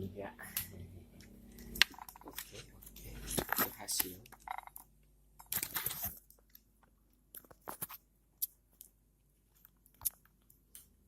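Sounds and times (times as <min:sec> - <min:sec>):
small clicks and crackles: 0:01.6 - 0:11.0.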